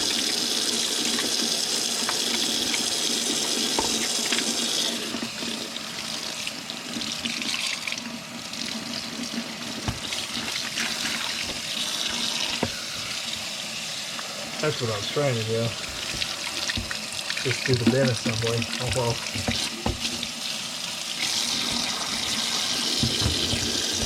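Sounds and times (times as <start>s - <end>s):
tap water running into sink: 0.0s - 24.0s.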